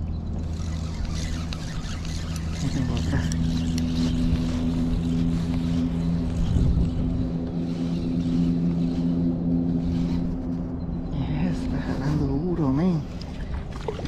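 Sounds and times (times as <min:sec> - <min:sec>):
low mechanical hum: 0:00.0 - 0:14.0
low rumble: 0:00.0 - 0:14.0.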